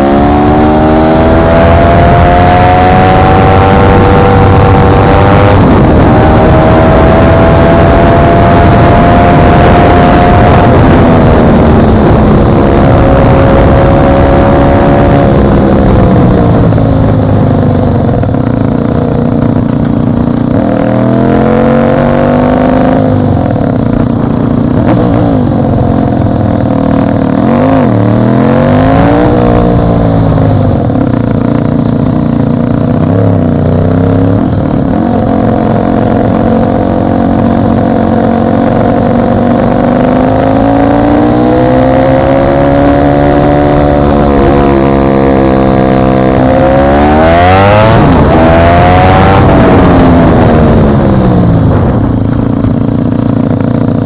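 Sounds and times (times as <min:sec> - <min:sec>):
motorcycle engine revving: 0:00.0 - 0:54.0
wind rumble on microphone: 0:00.0 - 0:54.0.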